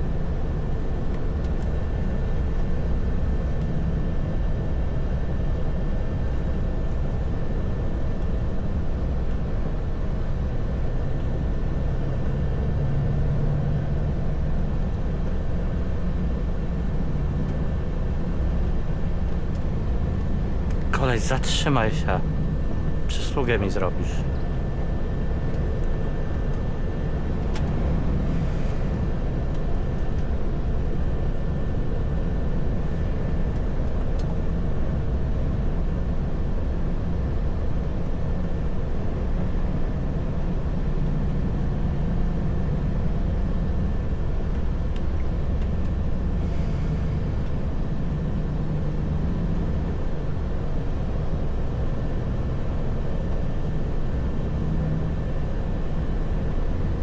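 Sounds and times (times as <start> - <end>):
heavy truck engine and road drone: 0.0 - 57.0.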